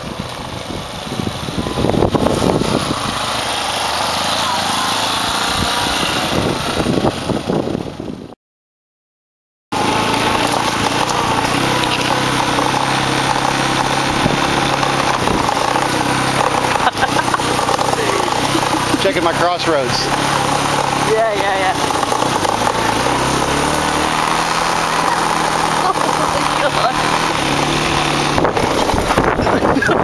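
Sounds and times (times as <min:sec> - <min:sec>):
motorcycle engine running: 0:00.0 - 0:08.4, 0:09.7 - 0:30.0.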